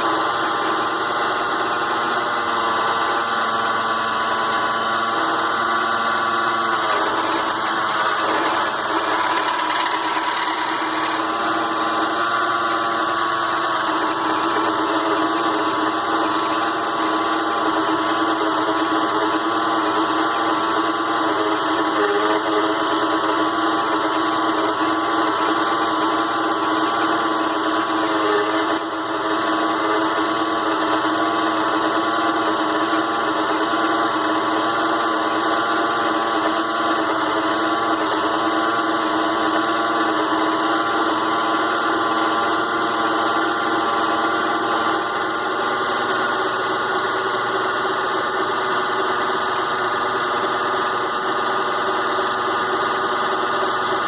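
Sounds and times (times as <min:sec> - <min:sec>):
mini lathe motor whine: 0:00.0 - 0:54.0.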